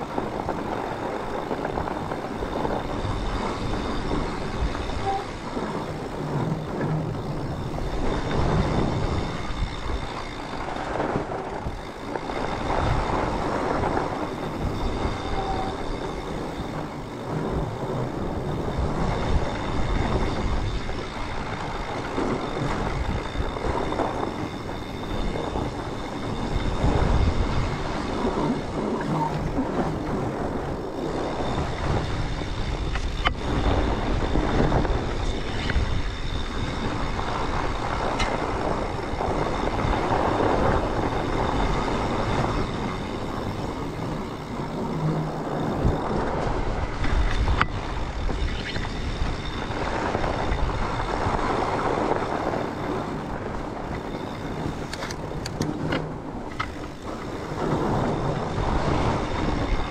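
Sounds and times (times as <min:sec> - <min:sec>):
bike tyres rolling on snow: 0:00.0 - 0:59.9
wind on microphone: 0:00.0 - 0:59.9.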